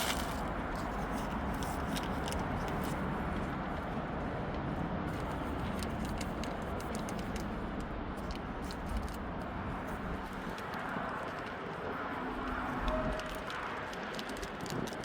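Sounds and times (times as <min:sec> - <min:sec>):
small irregular clicks and crunches: 0:00.0 - 0:03.9, 0:04.5 - 0:15.0
outdoor background noise: 0:00.0 - 0:15.0.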